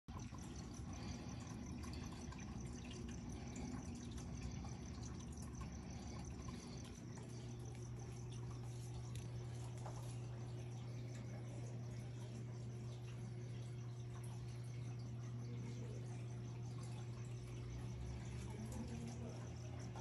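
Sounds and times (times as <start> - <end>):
low hum: 0.1 - 20.0
water trickling and dripping: 0.1 - 20.0.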